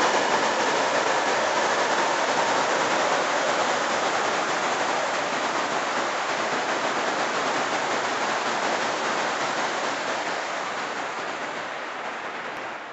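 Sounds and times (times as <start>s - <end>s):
heavy rain on a plastic roof: 0.0s - 12.9s.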